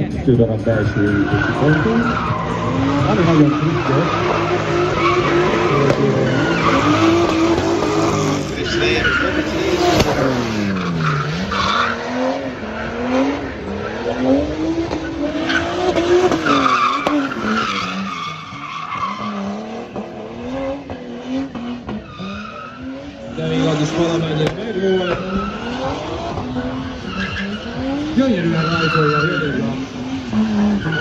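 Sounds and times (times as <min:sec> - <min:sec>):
car engine revving: 0:00.0 - 0:31.0
tyres squealing: 0:00.8 - 0:12.5, 0:15.0 - 0:19.5, 0:22.0 - 0:31.0.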